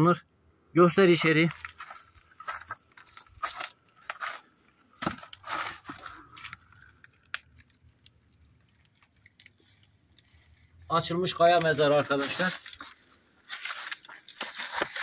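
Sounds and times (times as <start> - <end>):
crunching over loose stones: 1.1 - 15.0.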